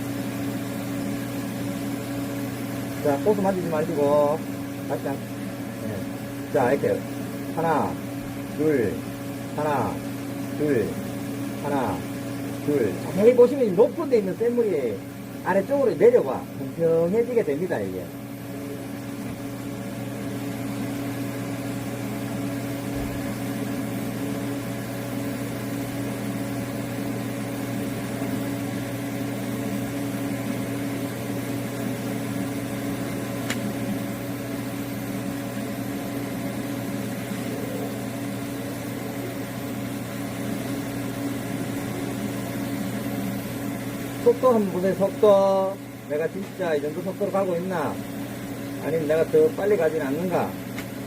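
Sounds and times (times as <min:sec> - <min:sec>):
arc welding hum: 0:00.0 - 0:51.0.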